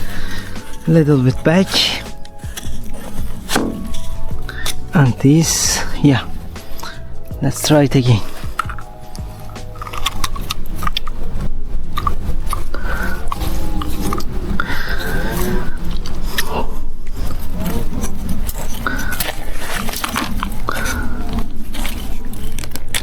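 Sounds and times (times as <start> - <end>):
constant low rumble: 0.0 - 23.0
plastic pipe scraping and clicking: 0.0 - 23.0.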